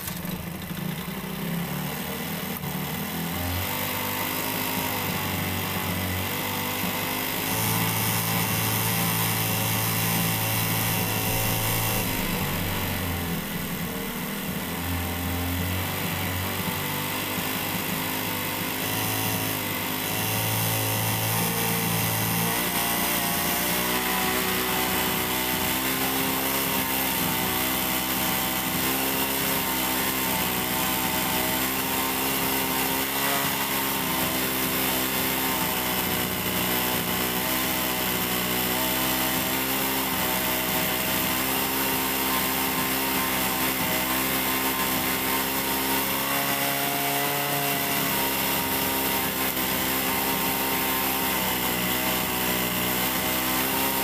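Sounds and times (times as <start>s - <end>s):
small engine idling: 0.0s - 54.0s.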